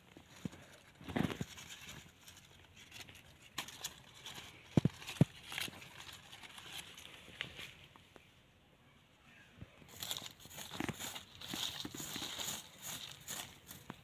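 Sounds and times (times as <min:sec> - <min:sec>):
rustling of dry leaves: 0:00.0 - 0:08.0, 0:09.8 - 0:14.0.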